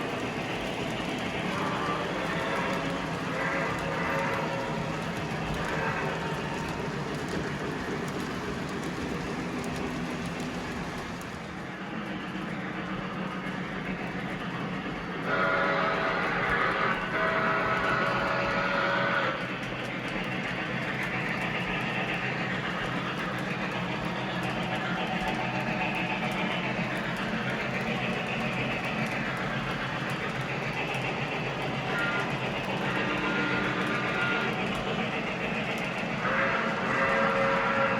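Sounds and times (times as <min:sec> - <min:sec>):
model train rumbling: 0:00.0 - 0:37.9.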